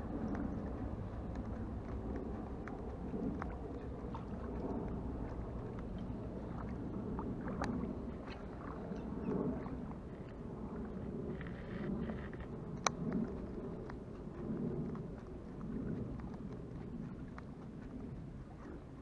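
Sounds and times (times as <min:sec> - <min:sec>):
faint clicks: 0:00.0 - 0:06.9, 0:07.5 - 0:19.0
water lapping at bank: 0:00.0 - 0:19.0
wind rumble: 0:00.0 - 0:19.0.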